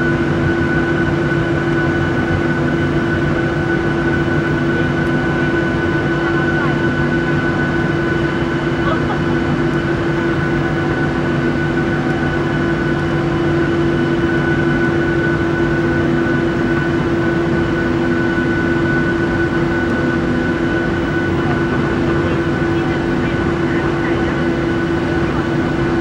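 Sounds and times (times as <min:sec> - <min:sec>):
jet engines droning in cabin: 0:00.0 - 0:26.0.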